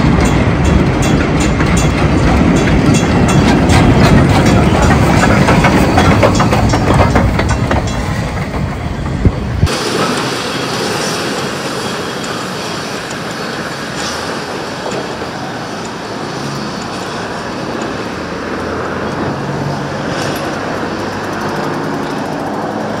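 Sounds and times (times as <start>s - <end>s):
steam train rumbling: 0.0s - 23.0s.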